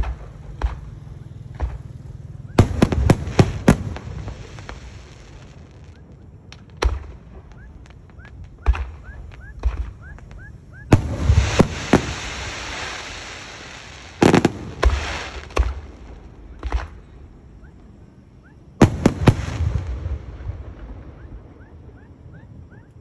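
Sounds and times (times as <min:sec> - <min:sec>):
firework crackling: 0:00.0 - 0:21.6
firework bangs: 0:00.0 - 0:22.6.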